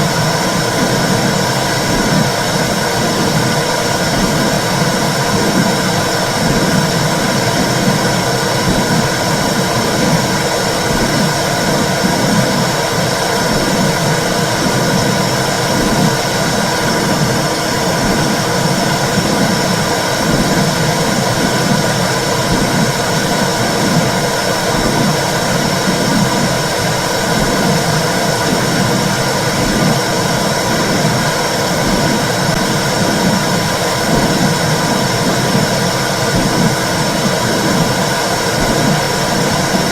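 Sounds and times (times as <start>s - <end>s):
low heartbeat pulse: 0.1s - 12.8s, 13.4s - 39.9s.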